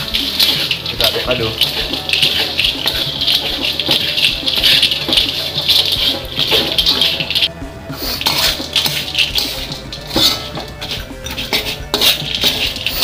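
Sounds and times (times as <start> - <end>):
fried strips rattling in wok: 0.0 - 13.0
spatula scraping in wok: 0.0 - 13.0.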